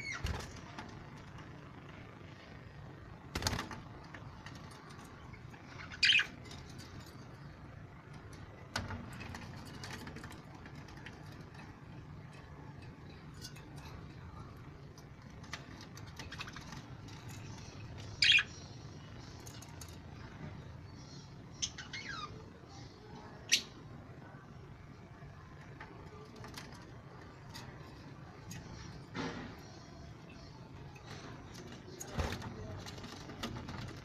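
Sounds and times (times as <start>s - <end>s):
birds chirping: 0.0s - 1.2s, 3.2s - 34.0s.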